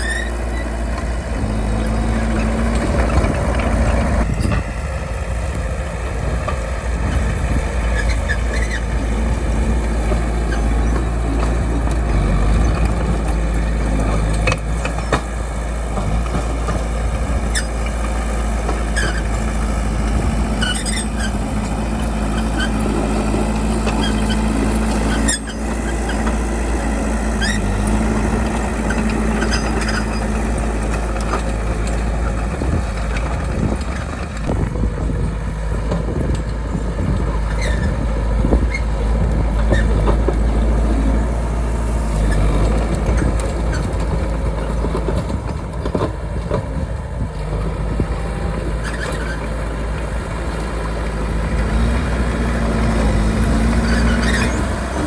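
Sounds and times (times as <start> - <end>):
steel tracks squeaking: 0.0 - 34.6, 36.2 - 46.9, 48.0 - 55.0
bulldozer diesel engine running: 0.0 - 55.0.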